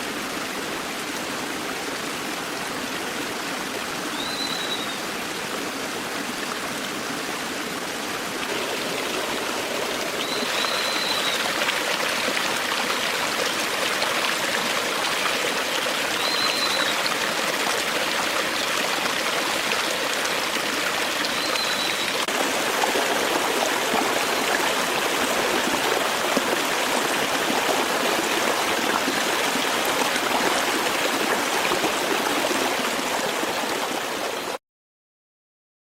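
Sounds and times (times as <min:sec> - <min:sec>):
stream flowing: 0:00.0 - 0:34.6.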